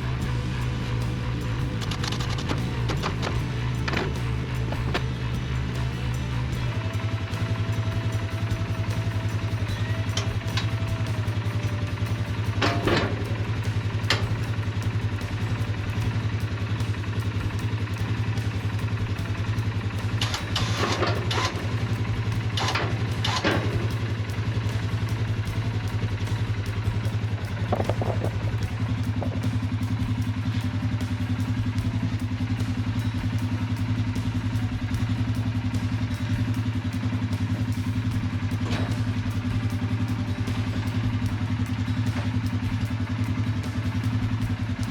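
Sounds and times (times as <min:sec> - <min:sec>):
engine running: 0:00.0 - 0:44.9
sharp clicks and clanks: 0:00.0 - 0:44.9.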